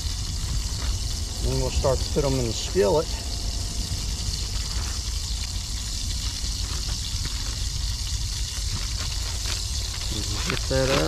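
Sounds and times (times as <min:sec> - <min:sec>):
camp stove burner hissing: 0:00.0 - 0:11.0.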